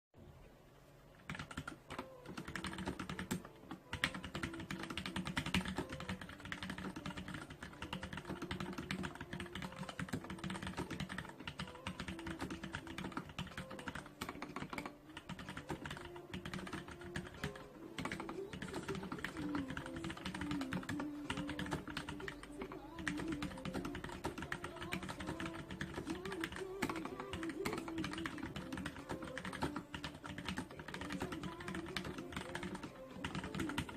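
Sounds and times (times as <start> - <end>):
fast mechanical keyboard typing: 1.3 - 33.9.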